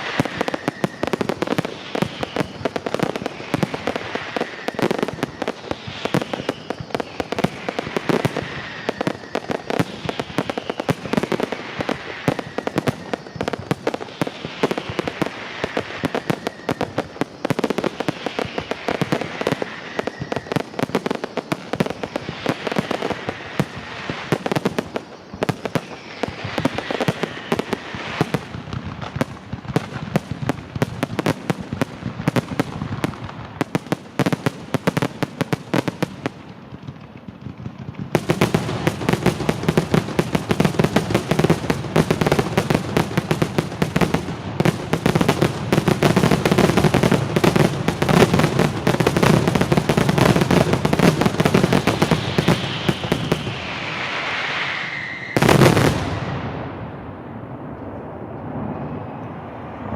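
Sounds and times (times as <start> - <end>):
faint falling whistles: 0.0 - 36.4, 38.2 - 56.6
fireworks bangs and crackles: 0.0 - 59.9.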